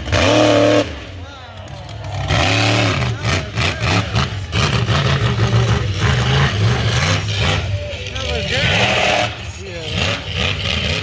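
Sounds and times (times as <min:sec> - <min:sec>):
truck engine revving loud: 0:00.0 - 0:11.0.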